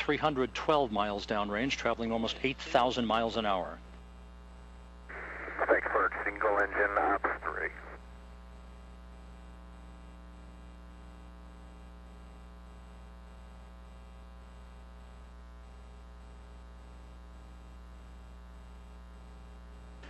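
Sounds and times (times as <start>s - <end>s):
electrical hum and buzz: 0.0s - 20.0s.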